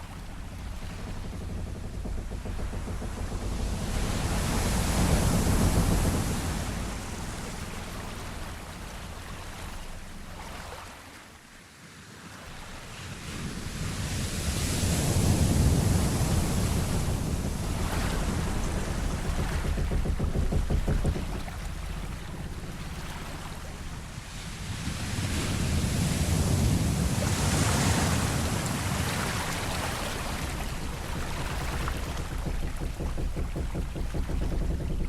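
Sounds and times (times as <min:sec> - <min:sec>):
sea waves rolling: 0:00.0 - 0:11.4, 0:12.4 - 0:35.0.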